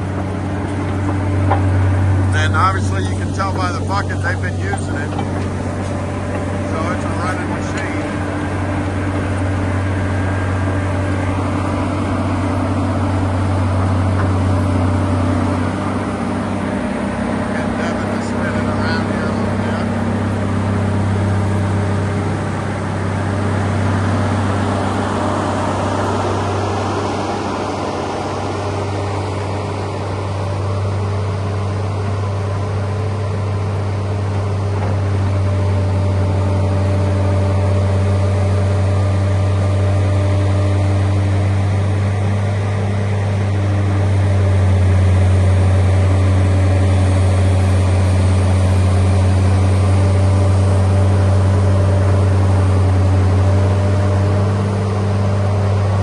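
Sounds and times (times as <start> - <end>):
excavator diesel engine drone: 0.0 - 56.0.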